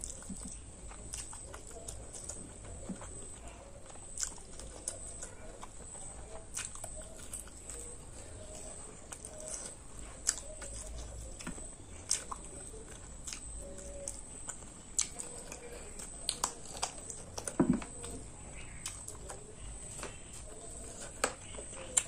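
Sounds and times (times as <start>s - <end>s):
chewing mouth sounds: 0.0s - 22.0s.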